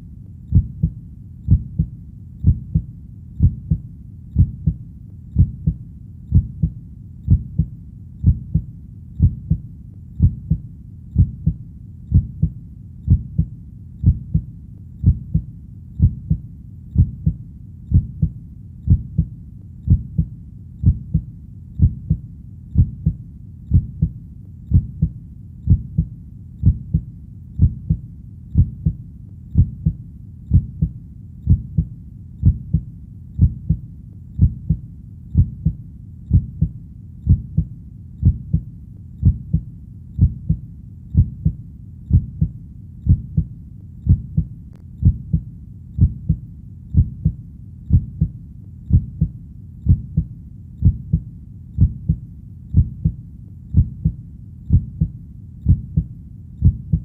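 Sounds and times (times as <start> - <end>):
faint low rumble: 0.0 - 57.0
heartbeat thumps: 0.0 - 57.0.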